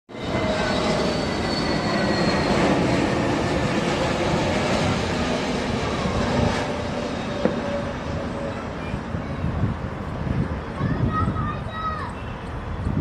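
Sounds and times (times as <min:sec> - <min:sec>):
high engine whine: 0:00.1 - 0:11.0
jet engines roaring: 0:00.1 - 0:13.0.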